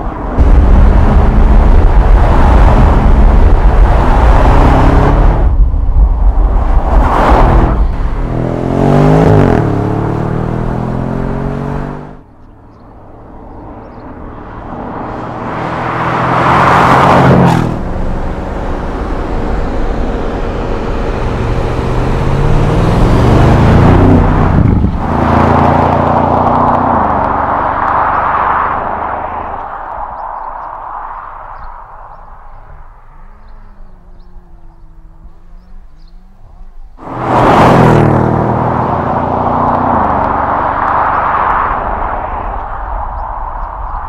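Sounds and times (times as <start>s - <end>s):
car engine revving: 0.0s - 5.7s, 6.3s - 12.2s, 13.8s - 30.7s, 33.7s - 43.8s.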